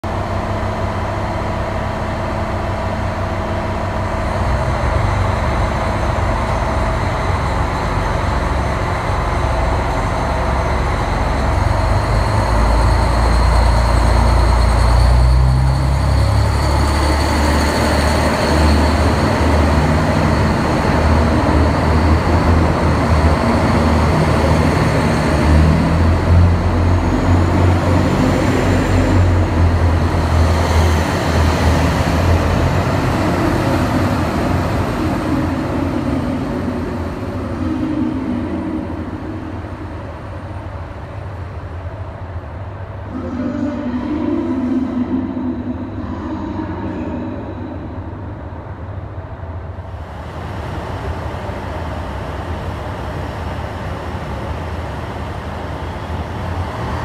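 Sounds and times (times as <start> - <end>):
diesel train engine rumble: 0.0 - 57.0.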